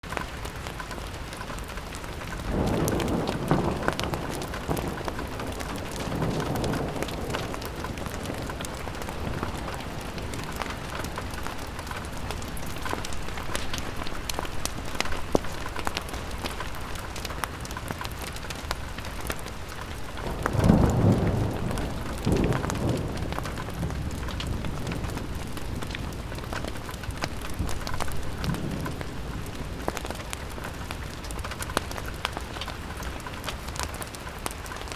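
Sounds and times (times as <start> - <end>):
rain on window glass: 0.0 - 34.9.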